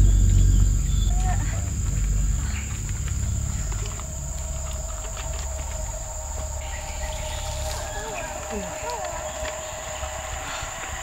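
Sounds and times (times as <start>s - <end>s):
insects buzzing: 0.0s - 11.0s
low rumble: 0.0s - 11.0s
low steady tone: 0.0s - 11.0s.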